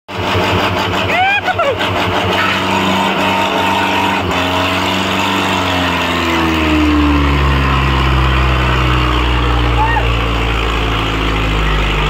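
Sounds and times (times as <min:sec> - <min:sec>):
tractor diesel engine under load: 0:00.1 - 0:12.0.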